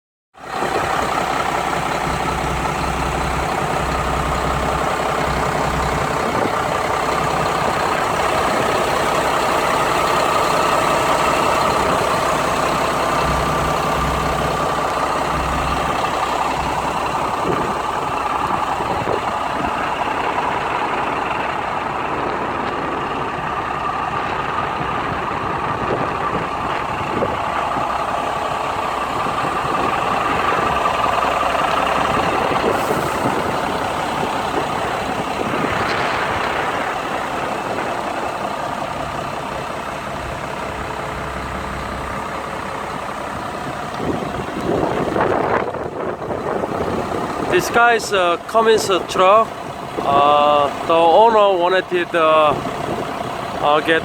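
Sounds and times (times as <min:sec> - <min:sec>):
truck diesel engine idling: 0:00.4 - 0:54.0.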